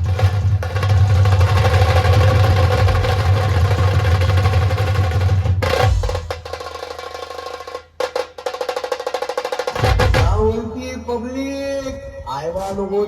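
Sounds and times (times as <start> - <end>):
deep dhol drums: 0.0 - 11.1
sharp tasha drums: 0.0 - 12.8.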